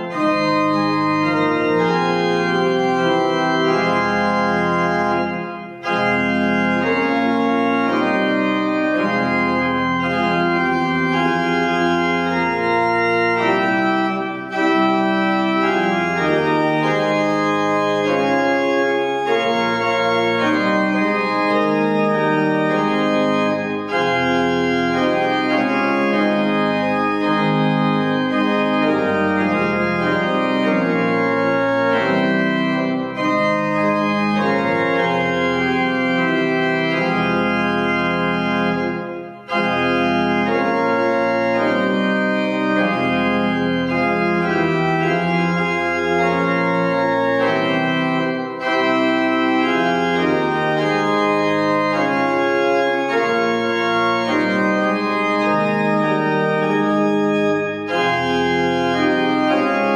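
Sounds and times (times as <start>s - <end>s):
pipe organ playing held chords: 0.0s - 59.9s.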